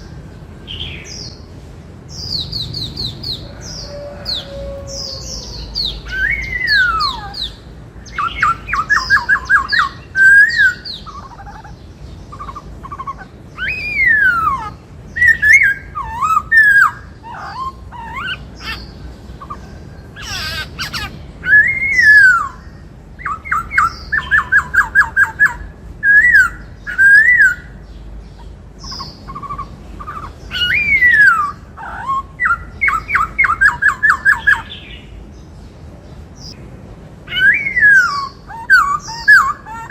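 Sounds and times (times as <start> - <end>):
bird singing whistled notes and trills: 0.0 - 1.5, 2.1 - 36.6, 37.3 - 39.9.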